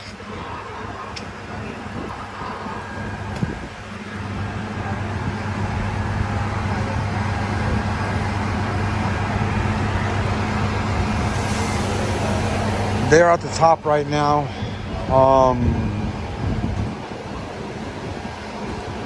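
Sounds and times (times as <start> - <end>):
city street traffic: 0.0 - 19.0
large vehicle engine humming: 0.0 - 19.0.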